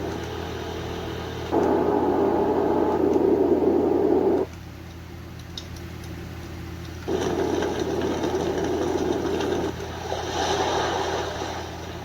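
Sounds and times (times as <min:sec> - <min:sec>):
low steady hum: 0:00.0 - 0:12.0
white noise machine sounds: 0:00.0 - 0:12.0.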